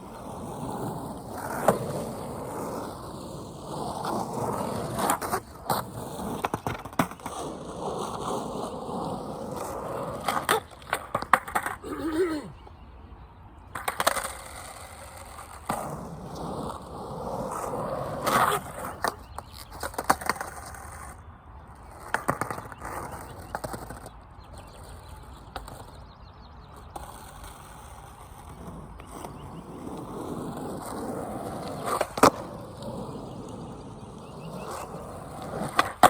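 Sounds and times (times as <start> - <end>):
skateboard clacks: 0.0 - 11.9, 13.7 - 26.1, 26.7 - 36.0
skateboard wheels rolling on pavement: 0.0 - 36.0.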